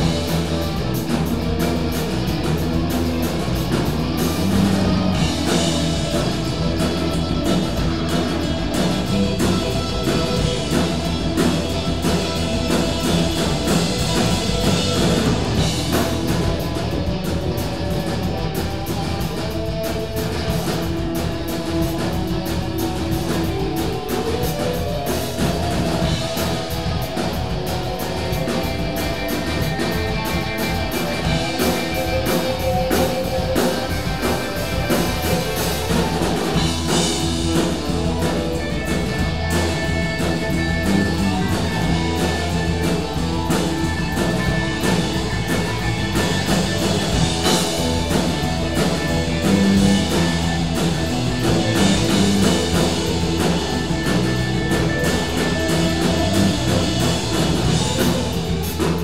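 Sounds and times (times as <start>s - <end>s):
rock band jamming: 0.0s - 59.0s.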